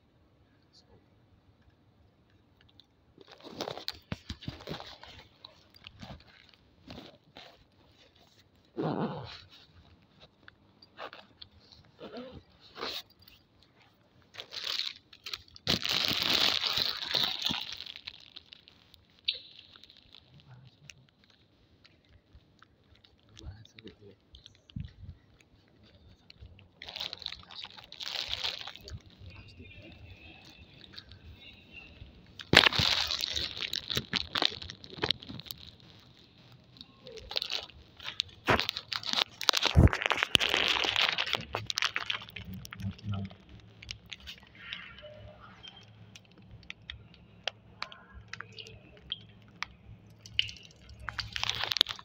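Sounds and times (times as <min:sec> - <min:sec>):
close crunching and crackling: 0:02.4 - 0:52.0.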